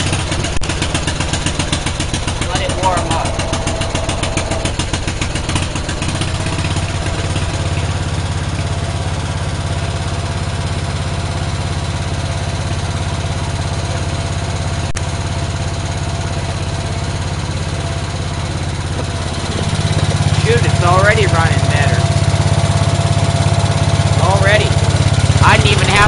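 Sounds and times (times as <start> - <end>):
small engine running: 0.0 - 26.0.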